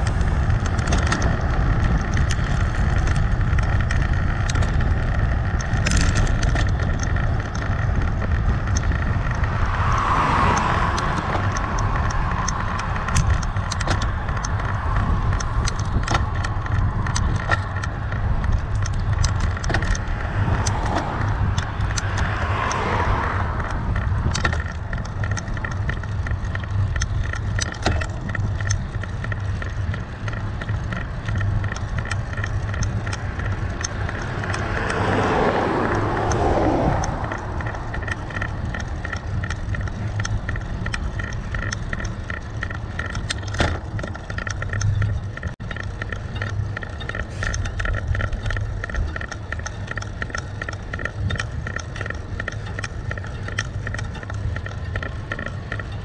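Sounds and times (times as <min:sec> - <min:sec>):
bicycle rattles and clicks: 0:00.0 - 0:56.0
cars passing: 0:00.0 - 0:56.0
wind and road rumble: 0:00.0 - 0:56.0.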